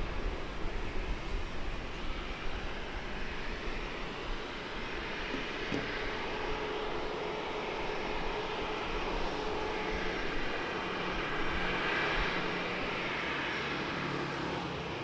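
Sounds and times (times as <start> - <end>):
jet airliner engine noise: 0.0 - 15.0.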